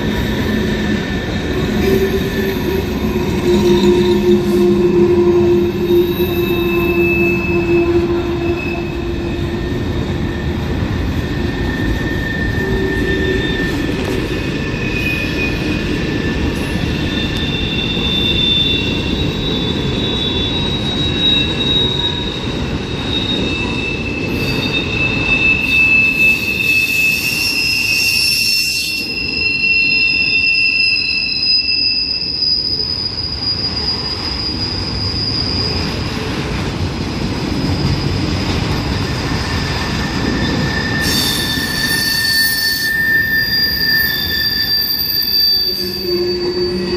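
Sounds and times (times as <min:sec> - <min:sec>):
wheel squeal: 0:00.0 - 0:36.5, 0:37.5 - 0:46.9
train wheels rumbling on rails: 0:00.0 - 0:46.9.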